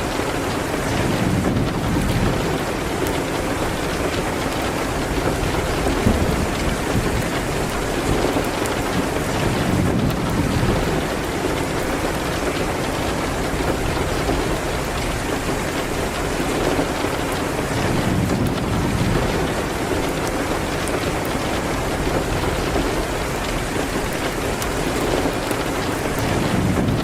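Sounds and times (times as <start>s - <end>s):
rain hitting a window: 0.0s - 27.0s.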